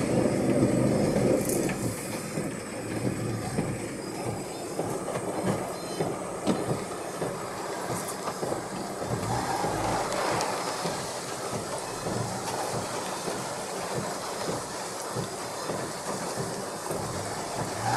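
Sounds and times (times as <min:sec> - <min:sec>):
strong wind through trees: 0:00.0 - 0:17.9.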